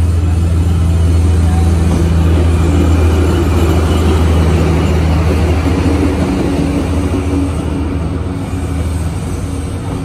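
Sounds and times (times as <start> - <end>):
diesel locomotive engine drone: 0.0 - 10.0
train wheels on rails: 0.0 - 10.0.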